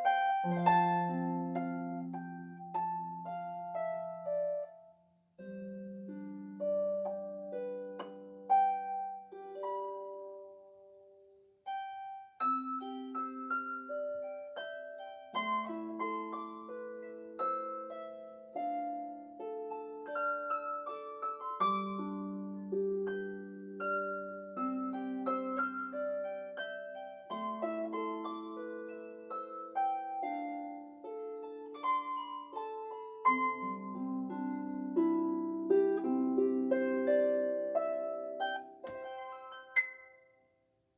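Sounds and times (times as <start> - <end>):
harp playing: 0.0 - 40.4.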